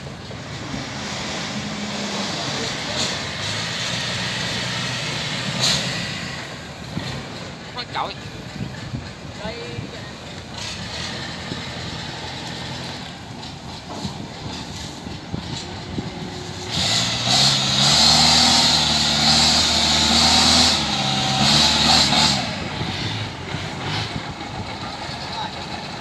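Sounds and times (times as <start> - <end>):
combine harvester diesel engine: 0.0 - 26.0.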